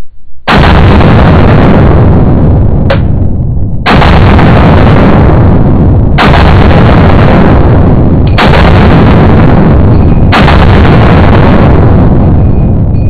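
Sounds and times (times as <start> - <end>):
pistol shots echoing indoors: 0.5 - 13.0.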